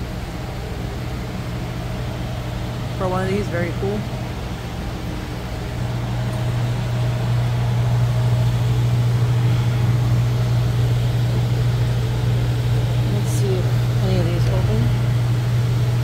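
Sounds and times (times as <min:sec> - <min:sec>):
air conditioning unit humming: 0:00.0 - 0:16.0.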